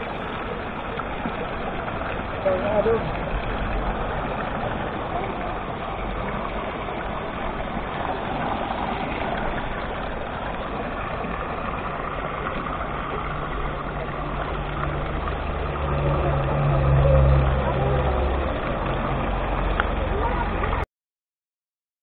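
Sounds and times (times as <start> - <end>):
low steady hum: 0.0 - 20.8
stream rushing over rocks: 0.0 - 20.8.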